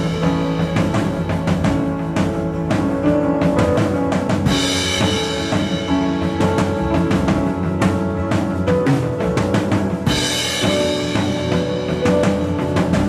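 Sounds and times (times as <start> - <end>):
drum kit beat: 0.0 - 13.0.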